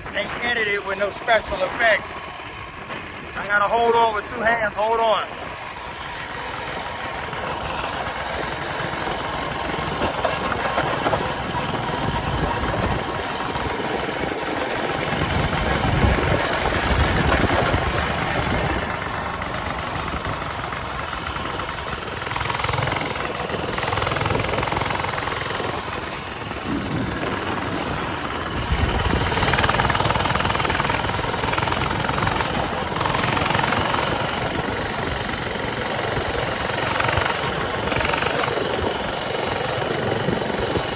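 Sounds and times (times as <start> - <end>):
small engine rattling drone: 0.0 - 40.9.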